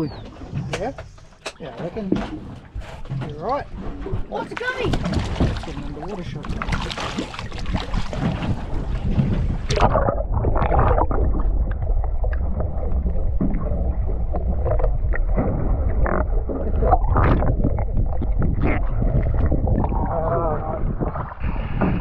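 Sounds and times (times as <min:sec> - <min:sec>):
underwater sloshing and gurgling: 0:00.0 - 0:22.0
water splashes: 0:00.0 - 0:22.0
wind buffeting microphone: 0:02.0 - 0:22.0.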